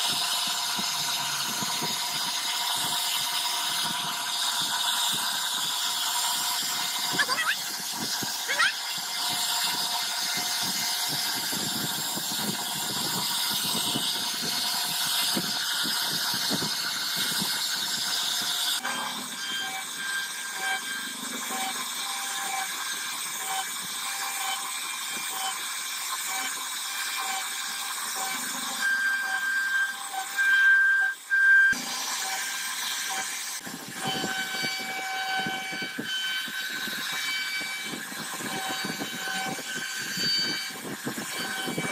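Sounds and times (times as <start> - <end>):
bit cutting wood: 0.0 - 41.9
router spindle whining: 0.0 - 41.9.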